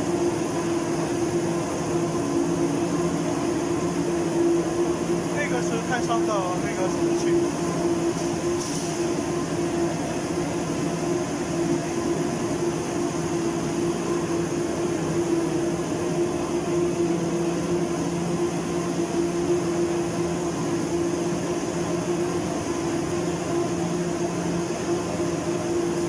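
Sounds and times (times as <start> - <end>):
factory machinery humming: 0.0 - 26.0.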